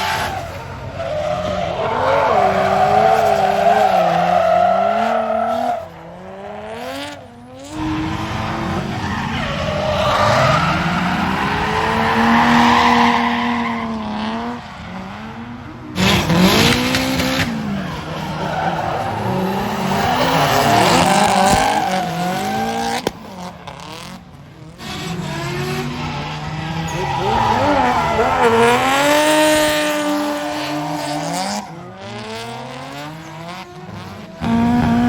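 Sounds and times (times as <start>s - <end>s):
tyres squealing and skidding: 0.0s - 6.0s, 7.7s - 24.2s, 24.8s - 32.2s
car engines revving: 0.0s - 35.0s.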